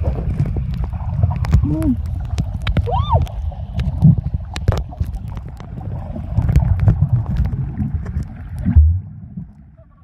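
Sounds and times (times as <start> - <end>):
sharp clicks and crackles: 0.0 - 8.8
muffled underwater rumble: 0.0 - 10.0.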